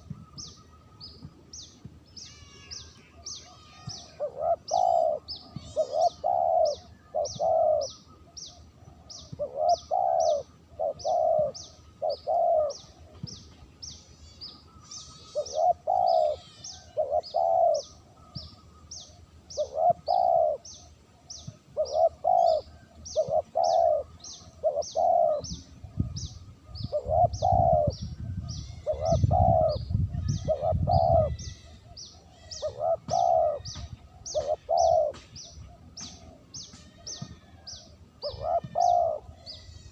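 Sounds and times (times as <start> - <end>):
small bird high chirps: 0.0 - 39.9
dove cooing: 2.4 - 13.4, 14.7 - 39.9.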